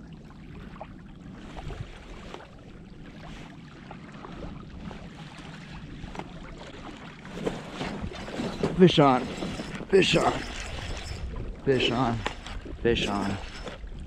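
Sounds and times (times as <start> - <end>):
waves lapping at stony shore: 0.0 - 14.0
wind rumbling on microphone: 0.0 - 14.0.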